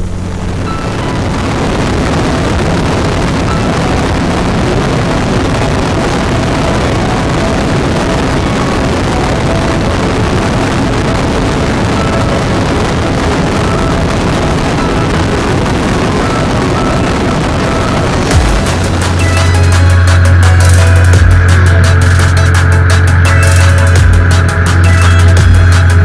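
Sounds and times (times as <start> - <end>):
aircraft engine running: 0.0 - 26.0
wind rush on microphone: 0.0 - 26.0.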